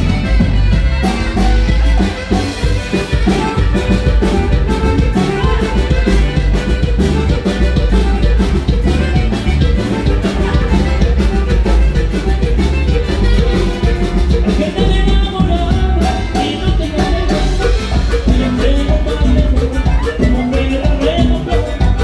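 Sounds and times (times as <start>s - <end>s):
bass and drums beat: 0.0s - 22.0s
live band with saxophone: 0.0s - 22.0s.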